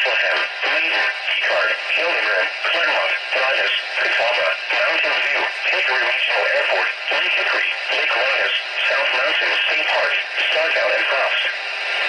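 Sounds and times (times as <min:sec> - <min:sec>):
synthetic voice over radio: 0:00.0 - 0:12.0.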